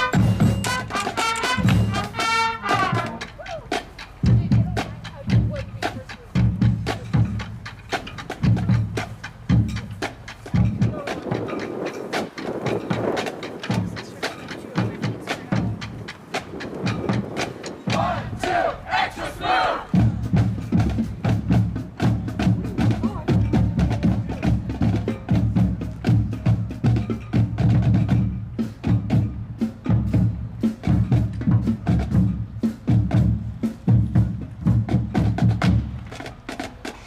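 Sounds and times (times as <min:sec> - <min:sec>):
drums playing fast beat: 0:00.0 - 0:37.0.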